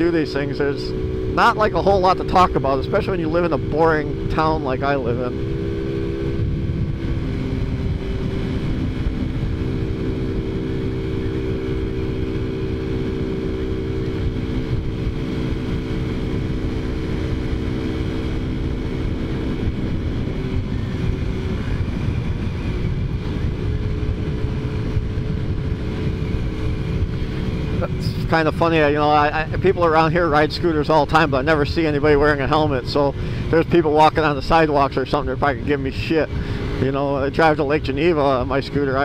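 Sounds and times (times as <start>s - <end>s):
scooter engine running: 0.0s - 39.0s
wind rumbling on microphone: 0.0s - 39.0s.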